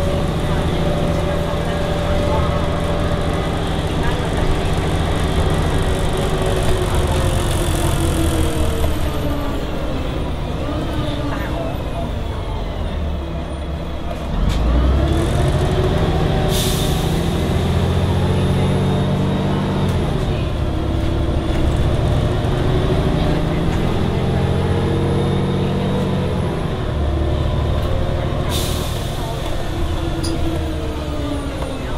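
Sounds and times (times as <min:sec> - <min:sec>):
bus engine pulling away: 0:00.0 - 0:31.9.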